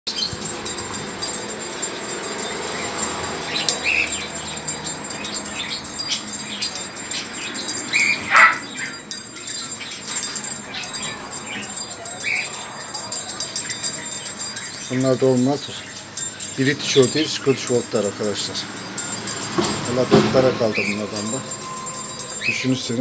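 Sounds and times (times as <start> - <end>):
steady background noise: 0.1 - 23.0.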